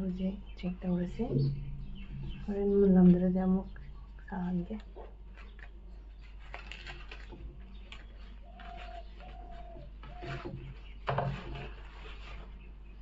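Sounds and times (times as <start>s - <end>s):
low cooing calls: 0.0s - 6.4s, 7.2s - 13.0s
dry leaf wrapping crinkling: 1.4s - 13.0s.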